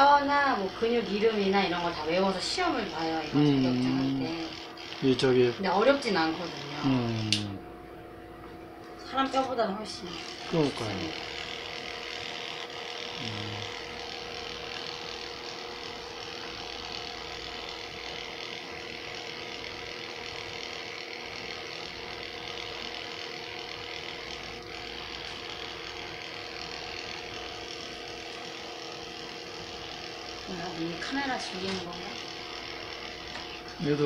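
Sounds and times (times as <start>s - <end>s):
electric clippers humming: 0.0s - 34.0s.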